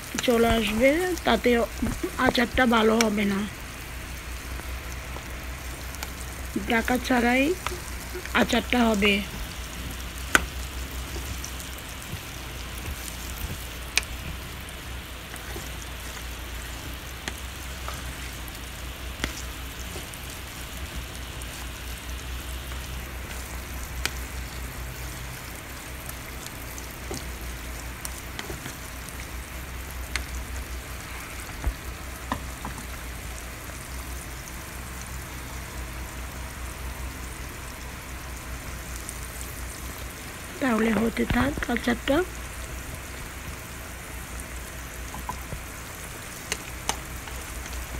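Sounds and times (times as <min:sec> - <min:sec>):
pickle sizzling in oil: 0:00.0 - 0:47.9
steady low hum: 0:00.0 - 0:47.9.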